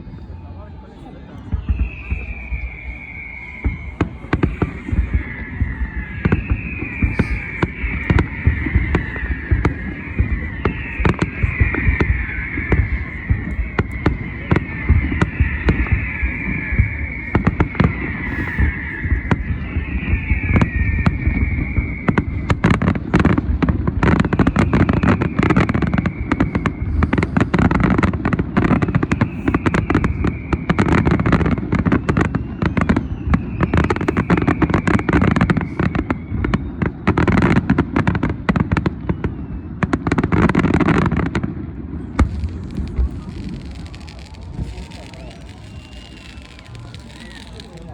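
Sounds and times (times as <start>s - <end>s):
fireworks bangs and crackling: 1.3s - 47.9s
whistling firework shells: 1.4s - 47.9s.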